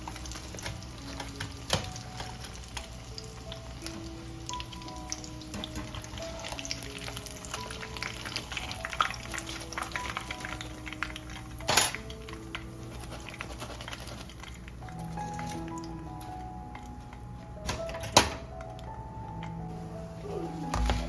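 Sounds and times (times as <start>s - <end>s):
hot oil frying and crackling: 0.0s - 19.0s
soft background music: 0.0s - 21.0s.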